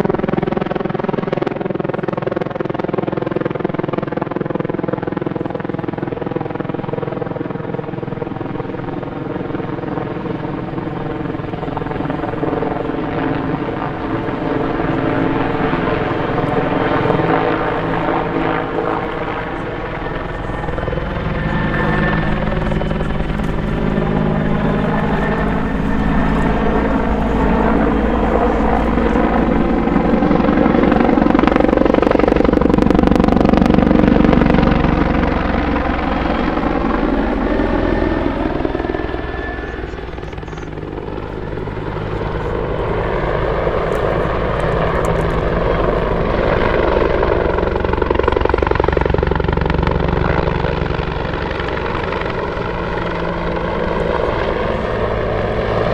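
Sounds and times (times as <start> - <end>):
helicopter rotor beating: 0.0 - 55.9
turbine whine: 5.8 - 55.9.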